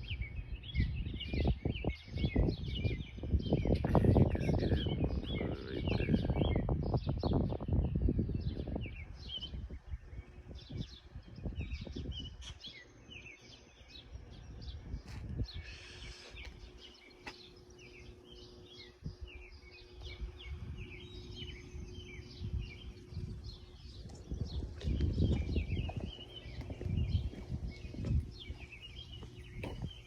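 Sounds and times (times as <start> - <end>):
low rumbling background noise: 0.0 - 30.0
small birds chirping: 0.0 - 30.0.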